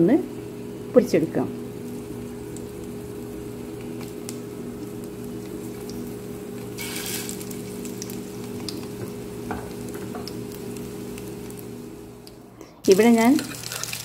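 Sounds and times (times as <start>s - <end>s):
low steady hum: 0.0s - 14.0s
patties sizzling in hot oil: 0.0s - 14.0s.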